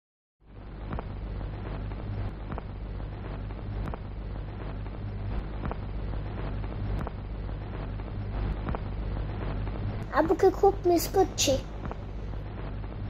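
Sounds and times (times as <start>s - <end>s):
low steady hum: 0.5s - 13.0s.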